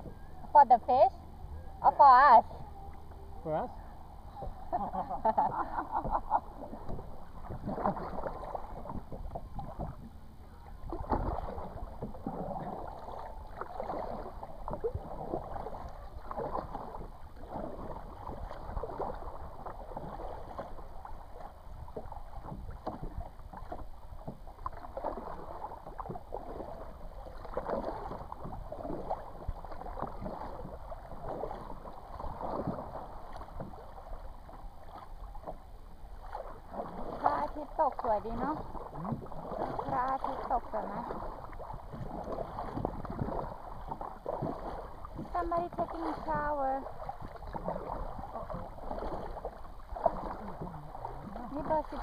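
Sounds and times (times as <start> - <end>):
paddle splashing in water: 0.0 - 52.0.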